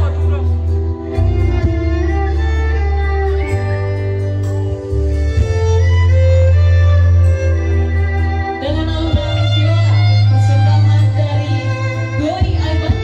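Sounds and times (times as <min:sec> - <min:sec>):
deep steady bass: 0:00.0 - 0:13.0
violin slow melody: 0:00.0 - 0:13.0.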